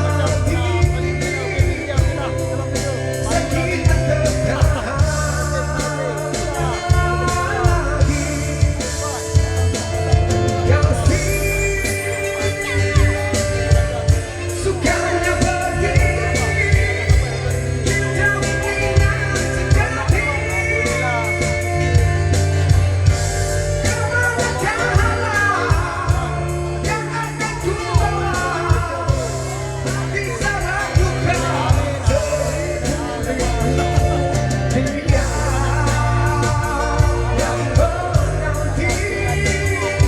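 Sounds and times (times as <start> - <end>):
band playing bass drums and guitar: 0.0 - 40.0
man singing rock ballad: 0.0 - 40.0.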